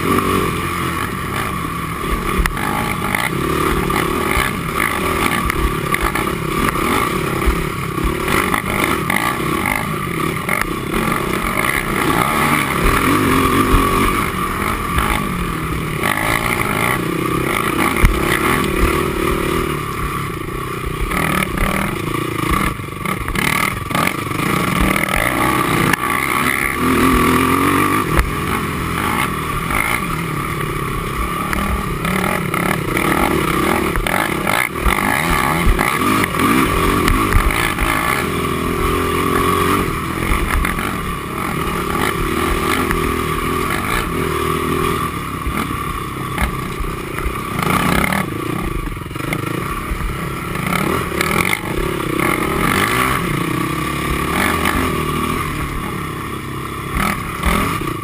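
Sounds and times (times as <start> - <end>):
quad engine revving: 0.0 - 58.0
knocks and rattles on rough ground: 2.1 - 44.2, 45.4 - 50.1.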